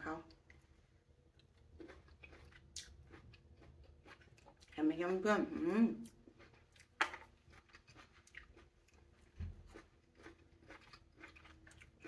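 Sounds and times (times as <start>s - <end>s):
chewing fruit: 1.3s - 12.0s.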